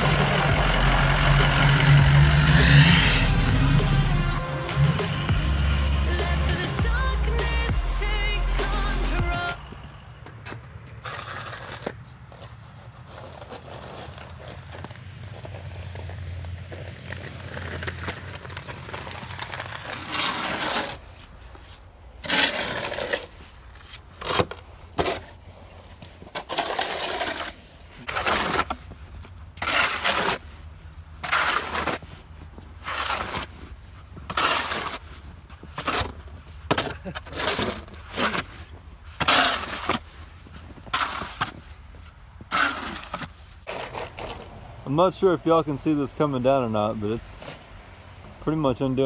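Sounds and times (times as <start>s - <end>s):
snow shovel scraping concrete: 0.0s - 9.6s, 10.4s - 47.7s.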